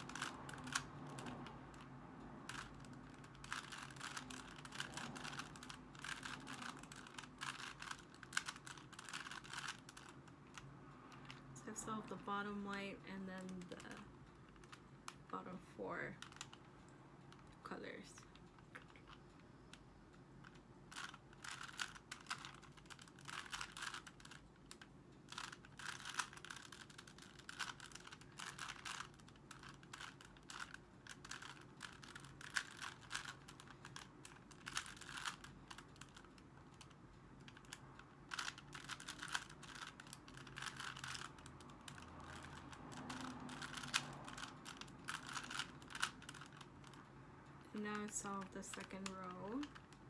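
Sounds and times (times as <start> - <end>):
plastic puzzle cube clicking: 0.0 - 11.4, 13.4 - 15.2, 16.2 - 16.7, 20.4 - 47.0, 47.9 - 50.0.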